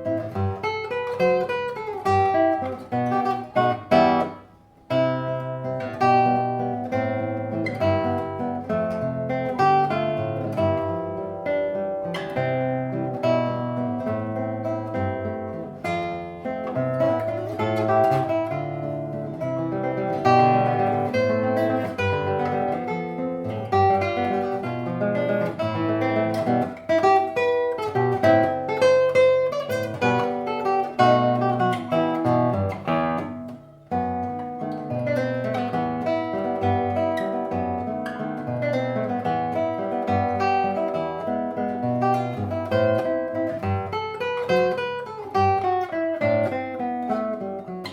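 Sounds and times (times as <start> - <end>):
acoustic guitar waltz: 0.0 - 47.9.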